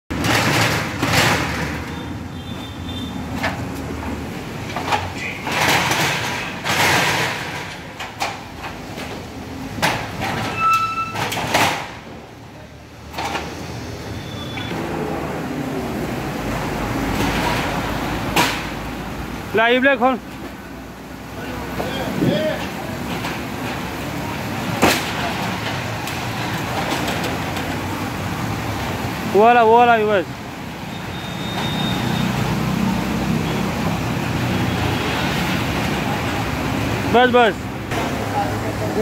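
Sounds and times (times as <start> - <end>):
metal shutter rattling and scraping: 0.1 - 12.4, 13.0 - 15.2, 16.2 - 37.5.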